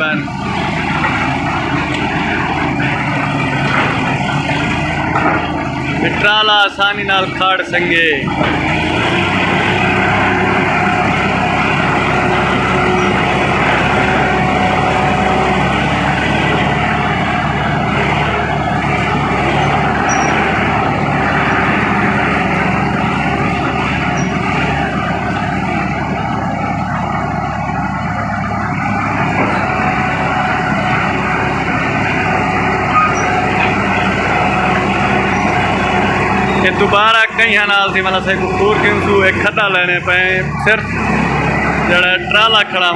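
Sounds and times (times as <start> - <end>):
bulldozer blade cutting ground: 0.0 - 42.9
bulldozer diesel engine running: 0.0 - 42.9.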